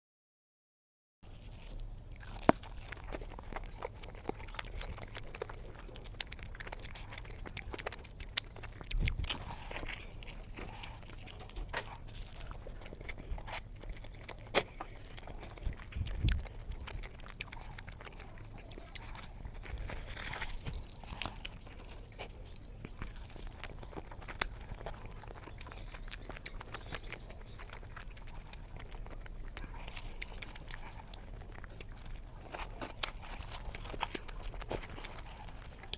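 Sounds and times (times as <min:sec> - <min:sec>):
person chewing: 0:01.2 - 0:35.9.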